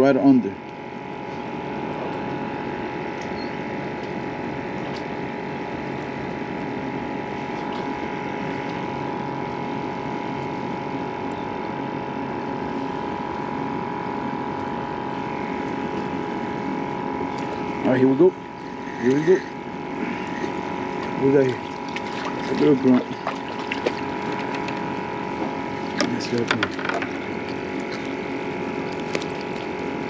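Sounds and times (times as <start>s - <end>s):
constant whining tone: 0.0s - 30.0s
machine hum: 0.0s - 30.0s.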